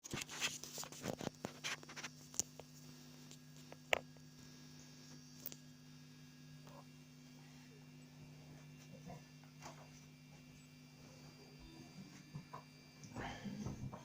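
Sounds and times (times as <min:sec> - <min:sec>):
guitar amp hum: 0:00.0 - 0:14.0.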